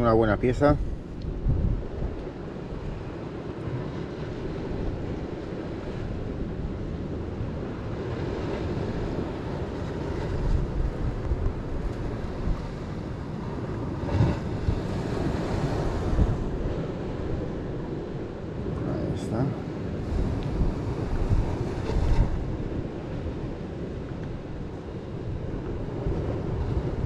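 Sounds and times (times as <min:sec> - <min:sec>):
sea waves on shore: 0:00.0 - 0:27.0
wind buffeting microphone: 0:00.0 - 0:27.0.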